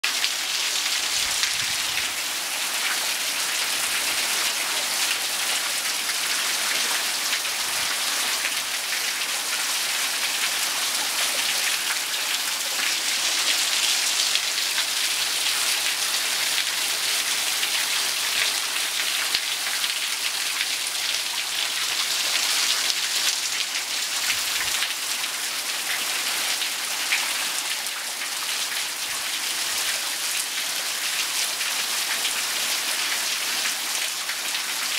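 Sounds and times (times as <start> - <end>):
heavy rain on pavement: 0.0 - 34.9.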